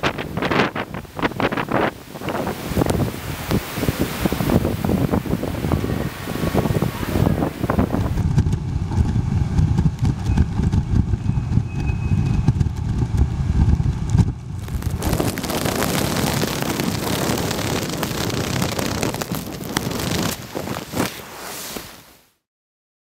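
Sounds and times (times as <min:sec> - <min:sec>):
wind buffeting microphone: 0:00.0 - 0:21.2
heavy rain: 0:00.0 - 0:22.2
storm waves breaking: 0:00.0 - 0:22.3.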